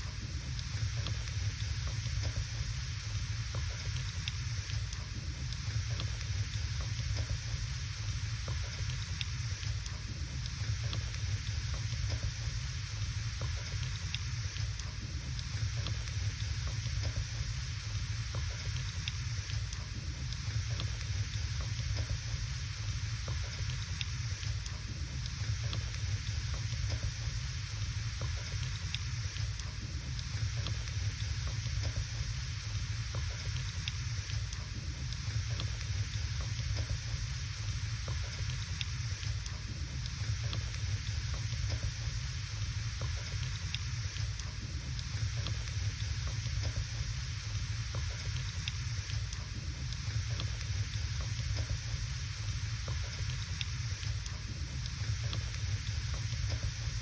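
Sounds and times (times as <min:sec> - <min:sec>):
fire crackling and popping: 0:00.0 - 0:57.0
fire rumbling and hissing: 0:00.0 - 0:57.0.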